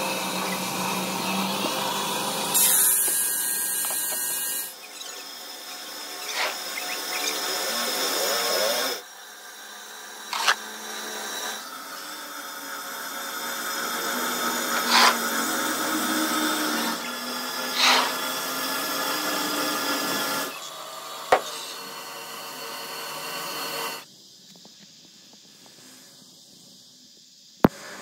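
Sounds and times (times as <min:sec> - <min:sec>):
circular saw grinding stone: 0:00.0 - 0:24.1.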